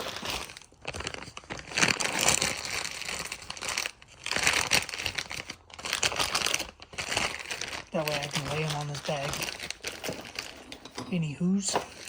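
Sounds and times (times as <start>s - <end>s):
bag crinkling: 0.0s - 12.0s.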